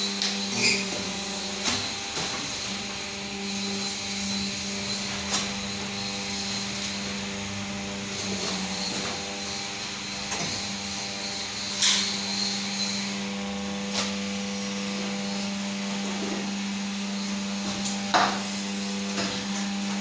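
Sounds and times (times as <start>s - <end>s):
press machines humming: 0.0s - 20.0s.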